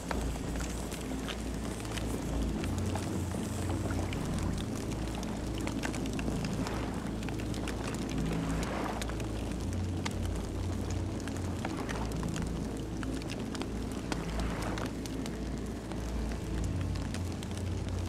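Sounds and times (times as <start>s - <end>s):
low rumble of flames: 0.0s - 18.0s
wood crackling and popping: 0.0s - 18.0s.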